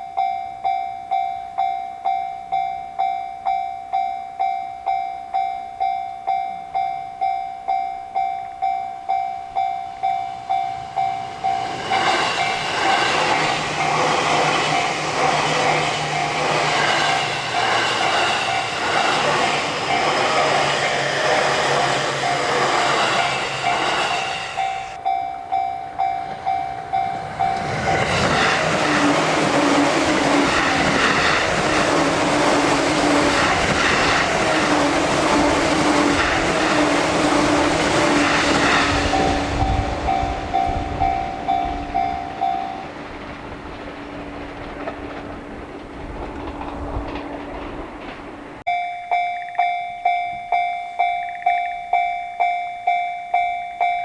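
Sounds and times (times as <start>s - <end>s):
level crossing warning bell: 0.0s - 43.8s, 48.6s - 54.0s
train passing on rails: 0.0s - 54.0s.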